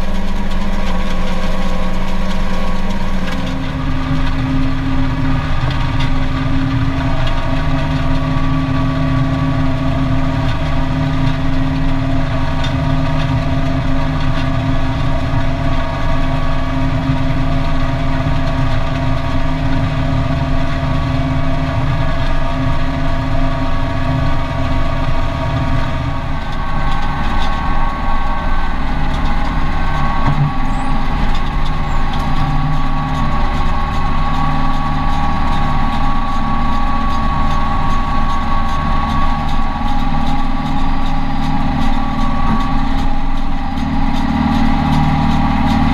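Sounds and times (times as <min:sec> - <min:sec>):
machinery whine: 0:00.0 - 0:45.9
tractor diesel engine running: 0:00.0 - 0:45.9.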